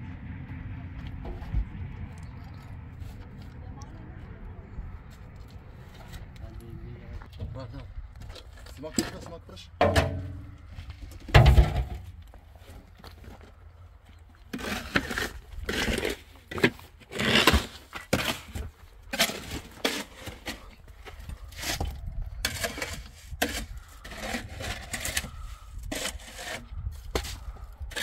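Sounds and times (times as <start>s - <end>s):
building work knocks and scraping: 0.9s - 3.4s, 7.2s - 28.0s.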